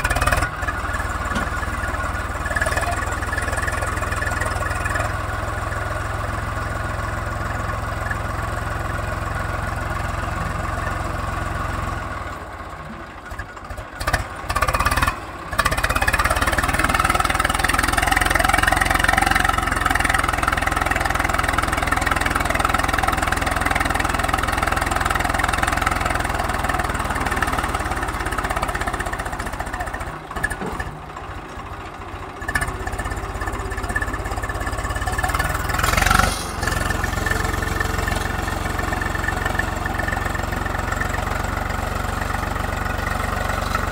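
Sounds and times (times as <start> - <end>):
tractor diesel engine straining: 0.0 - 43.9.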